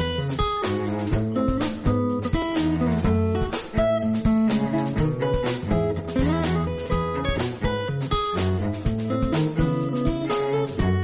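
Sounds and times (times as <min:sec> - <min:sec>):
background music with steady beat: 0:00.0 - 0:11.0
plucked notes: 0:00.0 - 0:11.0.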